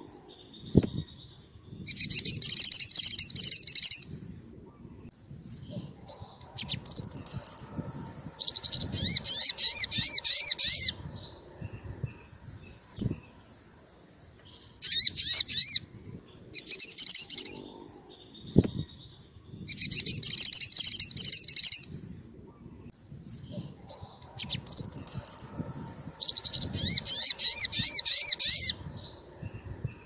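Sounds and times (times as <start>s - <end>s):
sunbird chirping: 4.9s - 30.0s.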